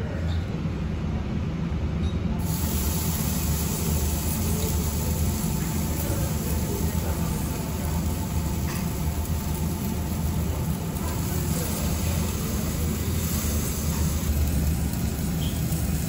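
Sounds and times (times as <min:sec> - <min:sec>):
ventilation hum: 0:00.0 - 0:16.0
meat sizzling on a grill: 0:02.4 - 0:16.0.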